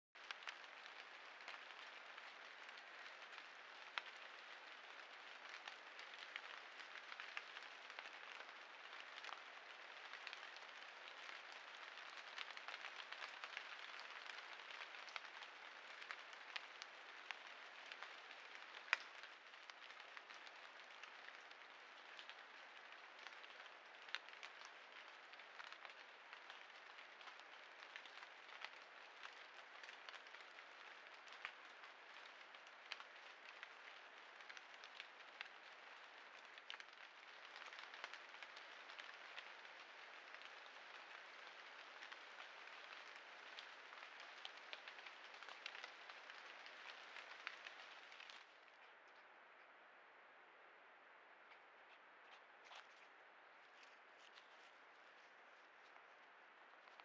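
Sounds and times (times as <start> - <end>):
small irregular ticks: 0.2 - 49.3, 51.5 - 57.0
faint steady hiss: 0.2 - 57.0.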